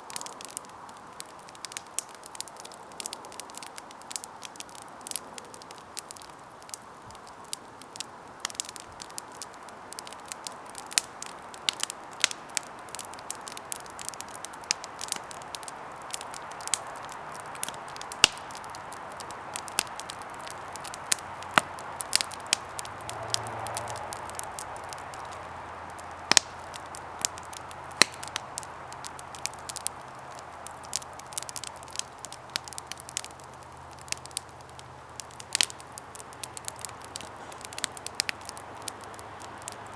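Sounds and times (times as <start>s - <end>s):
hiss of flames: 0.0s - 39.9s
wood crackling: 0.0s - 39.9s.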